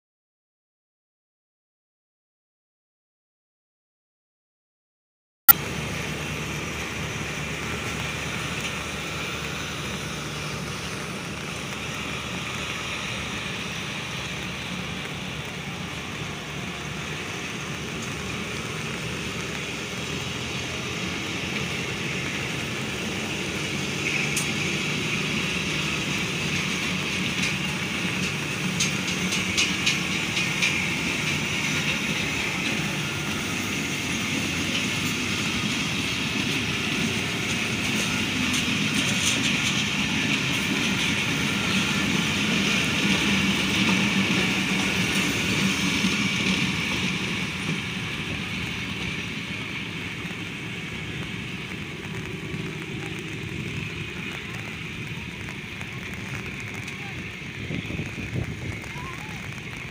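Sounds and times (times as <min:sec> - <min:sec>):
train coaches rumbling past: 0:05.5 - 0:59.9
wheels clicking over rail joints: 0:05.6 - 0:59.9.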